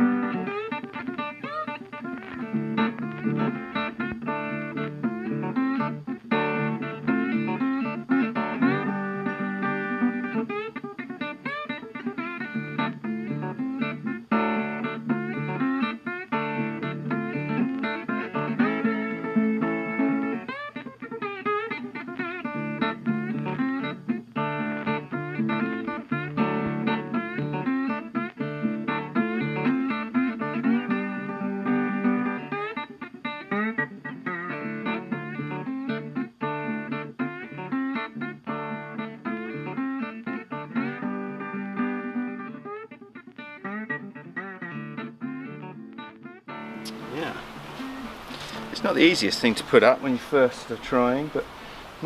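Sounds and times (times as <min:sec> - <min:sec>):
plucked acoustic guitar music: 0:00.0 - 0:52.0.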